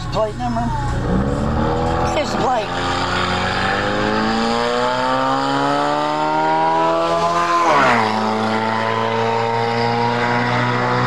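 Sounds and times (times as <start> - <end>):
sports car engine revving: 0.0 - 11.0.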